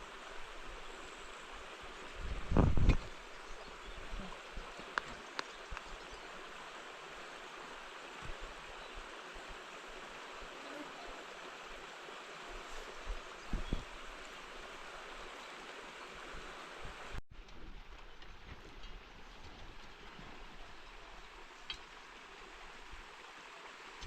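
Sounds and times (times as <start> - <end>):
running water rushing: 0.0 - 24.0.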